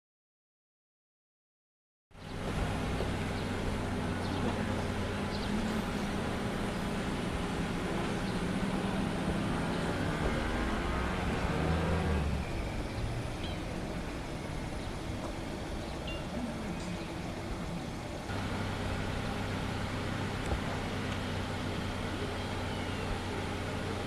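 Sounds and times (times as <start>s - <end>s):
street noise: 2.1s - 24.0s
vehicle engine droning: 2.1s - 24.0s.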